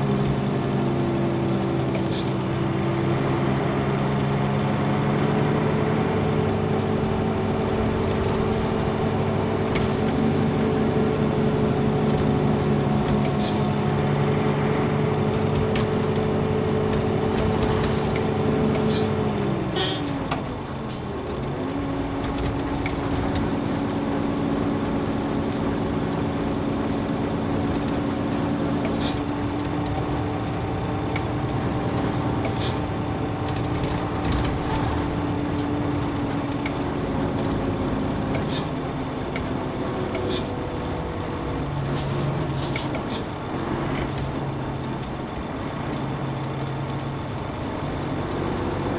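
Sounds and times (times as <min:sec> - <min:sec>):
bus diesel engine: 0:00.0 - 0:48.9.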